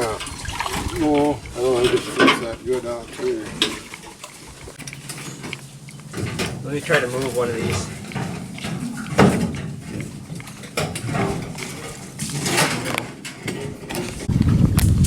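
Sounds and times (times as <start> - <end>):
rocks knocking and scraping: 0.0 - 15.0.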